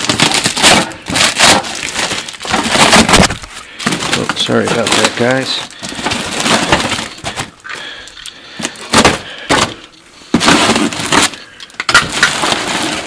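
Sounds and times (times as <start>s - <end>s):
cardboard and plastic tearing: 0.0s - 7.6s, 8.6s - 13.0s.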